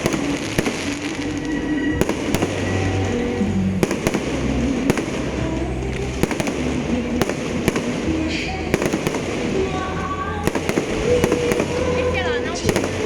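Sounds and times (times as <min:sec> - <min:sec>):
fireworks banging: 0:00.0 - 0:13.0.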